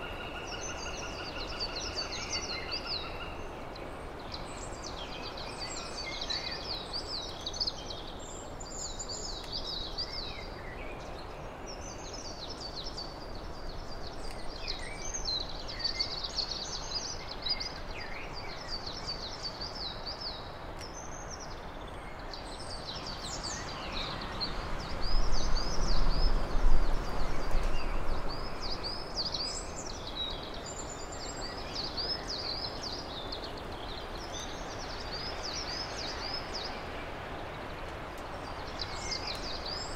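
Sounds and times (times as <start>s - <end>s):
songbirds chirping: 0.0s - 39.9s
steady outdoor hiss: 0.0s - 39.9s.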